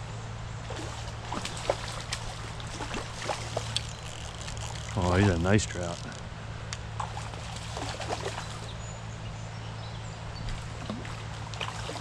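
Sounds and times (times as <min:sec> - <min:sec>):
creek water flowing: 0:00.6 - 0:08.8, 0:10.4 - 0:12.0.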